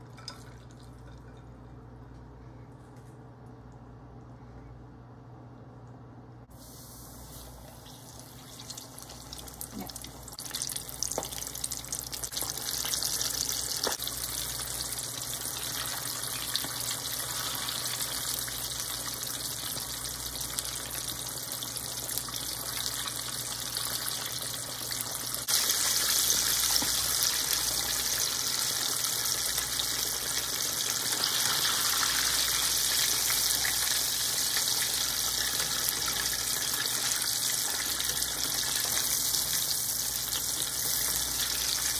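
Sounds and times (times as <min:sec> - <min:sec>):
chicken deep-frying in oil: 0:06.5 - 0:41.9.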